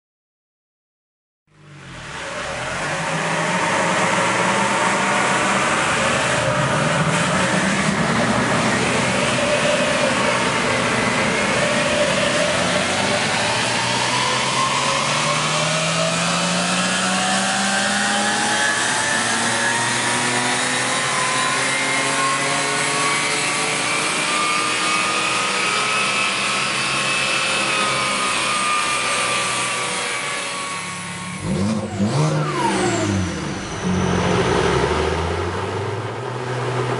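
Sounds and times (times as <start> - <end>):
car engine under load: 1.5 - 36.9.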